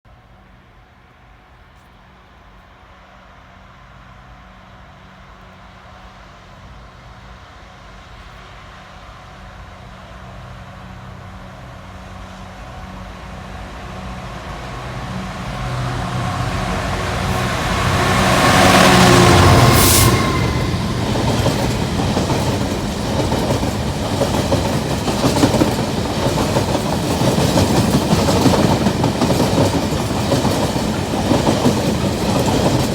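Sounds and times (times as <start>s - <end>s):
diesel locomotive engine drone: 0.1s - 32.9s.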